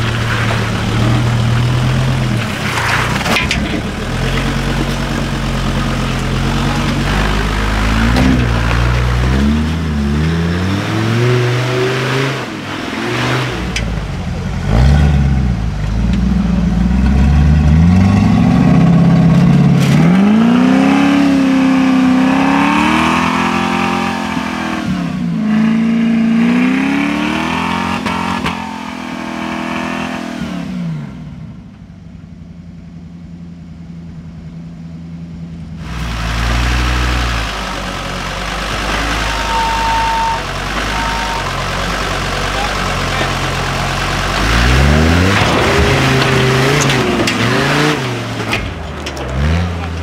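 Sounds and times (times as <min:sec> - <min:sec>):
engine revving: 0:00.0 - 0:31.3, 0:35.8 - 0:50.0.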